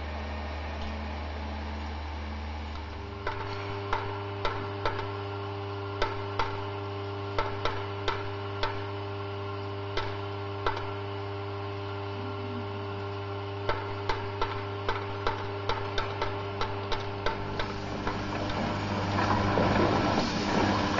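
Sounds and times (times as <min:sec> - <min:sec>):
vibratory feeder humming: 0:00.0 - 0:20.9.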